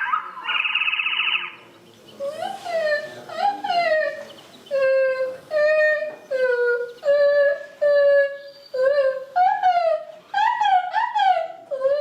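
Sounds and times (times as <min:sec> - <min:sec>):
person singing bird-like notes: 0:00.0 - 0:12.0.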